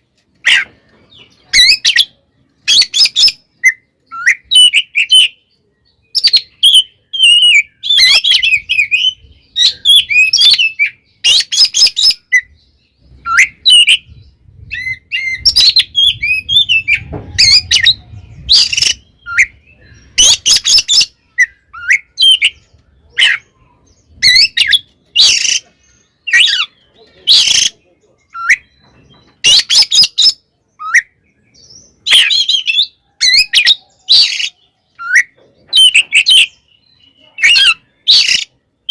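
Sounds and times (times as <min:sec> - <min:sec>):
bird singing whistles and trills: 0:00.4 - 0:38.9.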